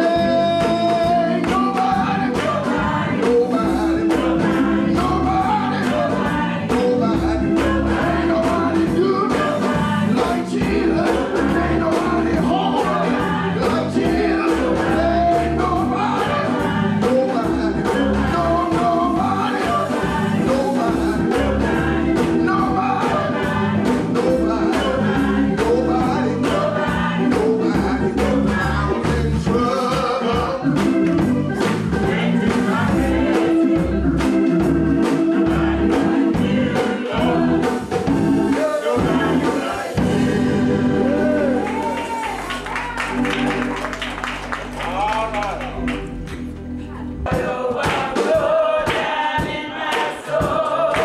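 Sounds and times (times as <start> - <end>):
gospel choir singing with band: 0.0 - 45.6, 46.9 - 51.0.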